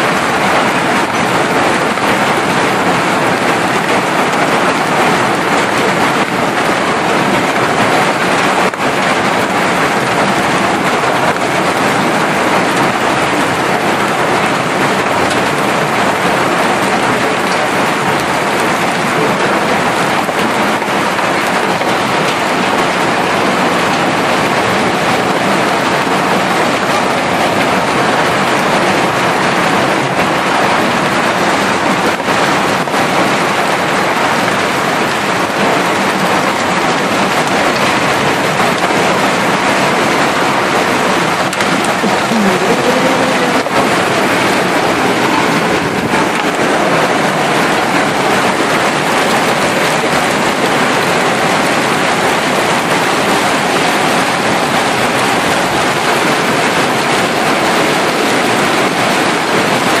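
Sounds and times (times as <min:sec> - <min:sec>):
hailstones pelting down: 0:00.0 - 1:00.0.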